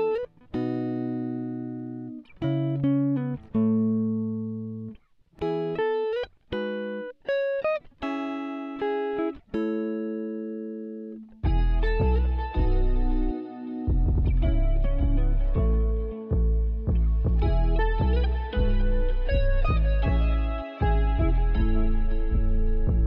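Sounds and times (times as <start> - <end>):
plucked guitar-like music: 0.0 - 23.0.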